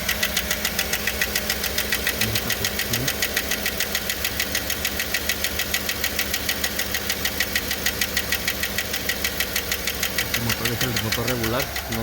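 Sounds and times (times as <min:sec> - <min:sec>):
engine idling: 0:00.0 - 0:12.0
rapid valvetrain ticking: 0:00.0 - 0:12.0.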